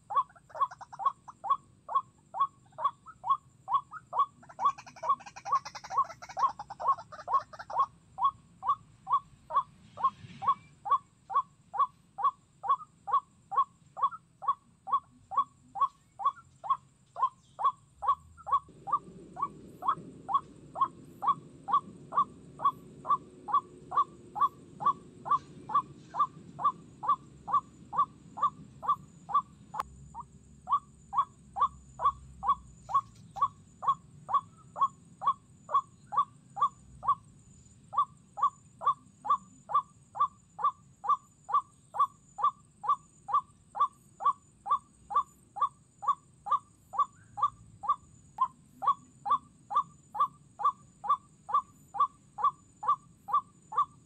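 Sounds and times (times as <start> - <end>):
waterhen calling: 0.0 - 37.2, 38.0 - 54.0.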